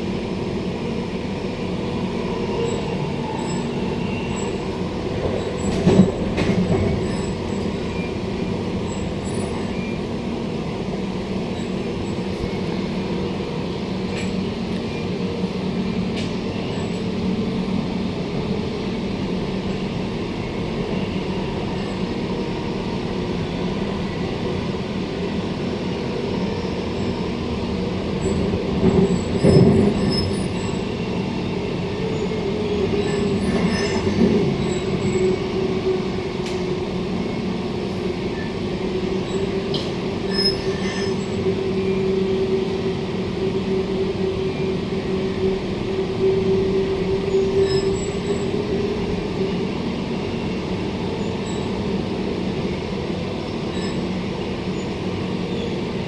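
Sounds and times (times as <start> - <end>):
train rumble and hum: 0.0 - 56.0.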